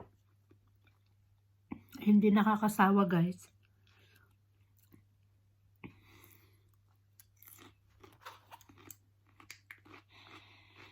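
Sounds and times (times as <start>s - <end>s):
person chewing food: 0.1s - 2.0s, 3.6s - 10.9s.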